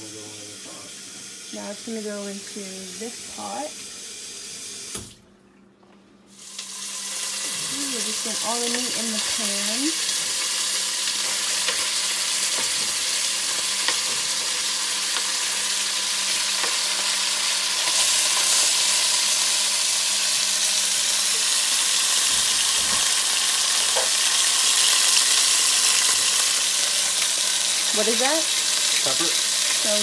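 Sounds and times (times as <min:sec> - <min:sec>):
beef sizzling in a pot: 0:00.0 - 0:05.1, 0:06.3 - 0:30.0.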